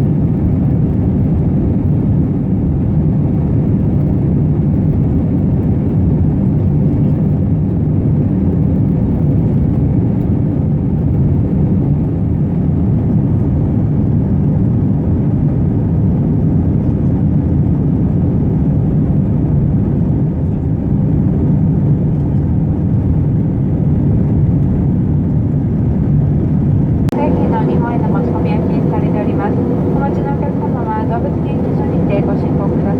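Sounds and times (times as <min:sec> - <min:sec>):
jet engines and airflow rush: 0:00.0 - 0:32.9.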